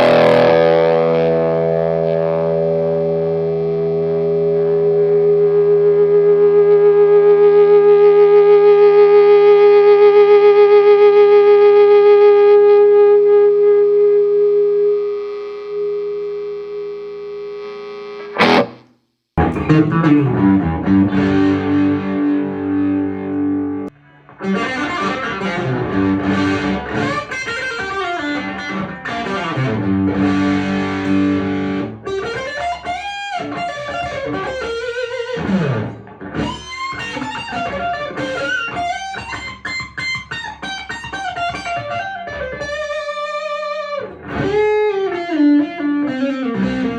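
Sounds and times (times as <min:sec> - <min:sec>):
distorted electric guitar playing: 0:00.0 - 0:46.9.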